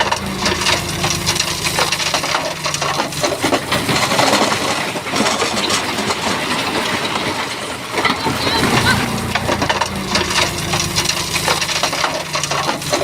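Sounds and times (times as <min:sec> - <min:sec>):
bulldozer diesel engine drone: 0:00.0 - 0:13.0
rocks clattering and grinding: 0:00.0 - 0:13.0.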